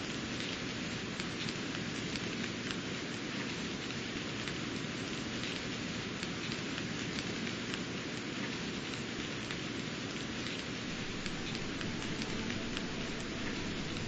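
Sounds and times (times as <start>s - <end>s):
drops ticking on leaves: 0.0s - 14.0s
rain hissing on foliage: 0.0s - 14.0s.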